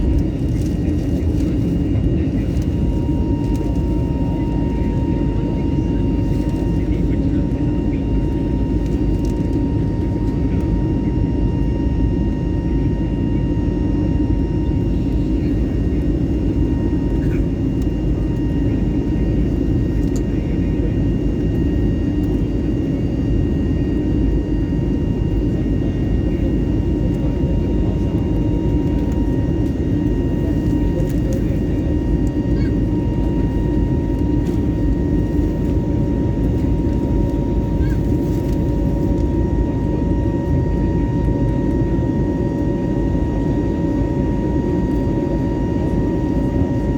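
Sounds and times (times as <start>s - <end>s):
airliner cabin engine rumble: 0.0s - 46.9s.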